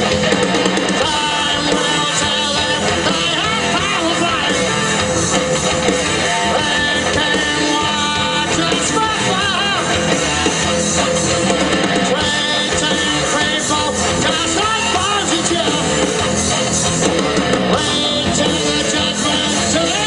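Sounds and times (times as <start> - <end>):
electric guitar bending notes: 0.0 - 20.0
live rock band playing: 0.0 - 20.0.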